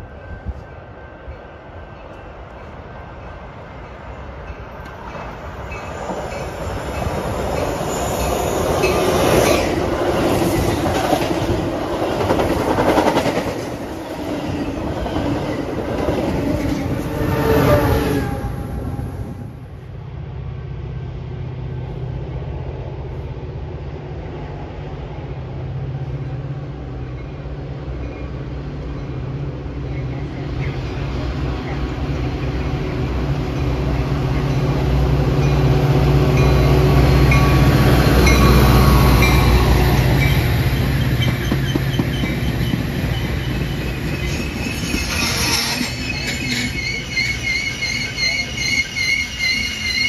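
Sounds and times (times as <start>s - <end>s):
train wheels rattling on rails: 0.0s - 18.5s, 26.9s - 50.0s
diesel locomotive drone: 0.0s - 50.0s.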